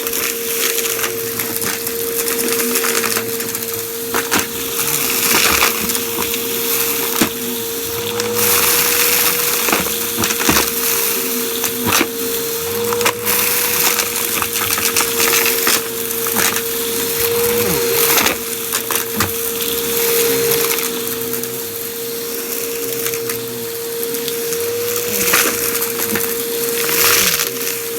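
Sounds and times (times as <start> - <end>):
debris crackling through hose: 0.0 - 27.9
vacuum cleaner motor whine: 0.0 - 27.9.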